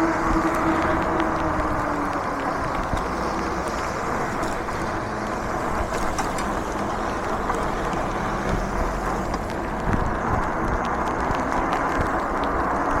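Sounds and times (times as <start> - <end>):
tyres hissing on wet road: 0.0 - 13.0
wind over microphone: 0.0 - 13.0.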